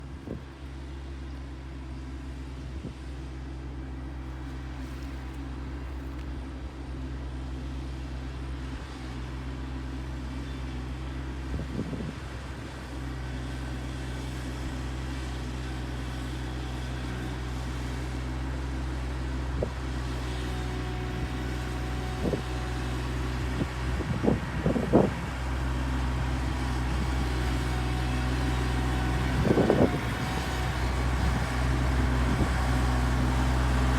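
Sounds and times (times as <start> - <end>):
large engine running steadily: 0.0 - 33.9.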